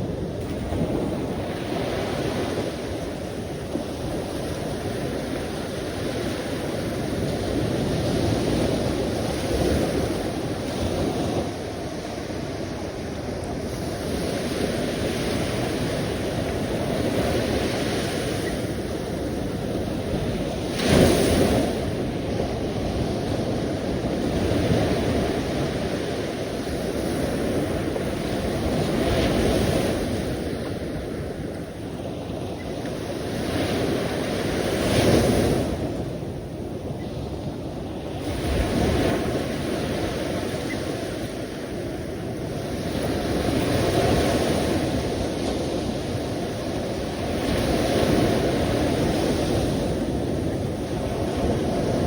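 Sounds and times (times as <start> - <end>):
sea waves washing ashore: 0.0 - 52.0.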